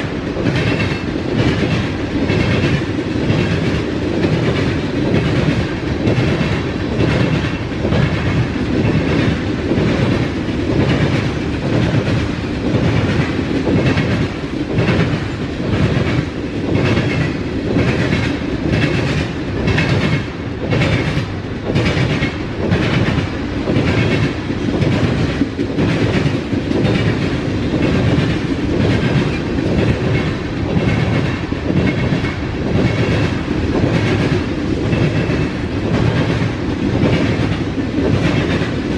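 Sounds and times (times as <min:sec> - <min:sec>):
freight train rumble: 0:00.0 - 0:38.9.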